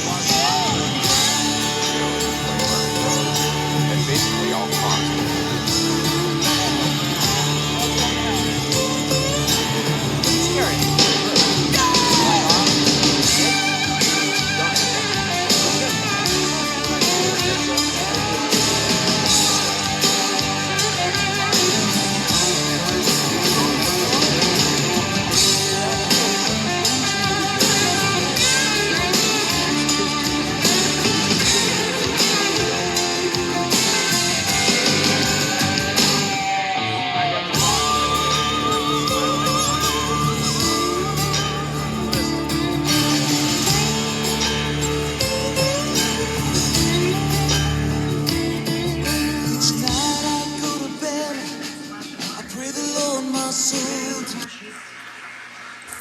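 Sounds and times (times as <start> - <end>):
rock music with guitar and drums: 0.0 - 54.5.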